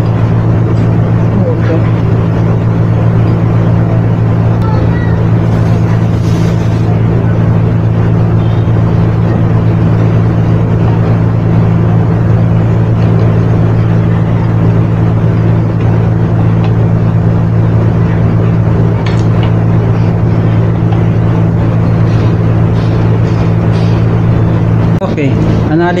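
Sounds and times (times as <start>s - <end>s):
electric motor hum: 0.0s - 26.0s.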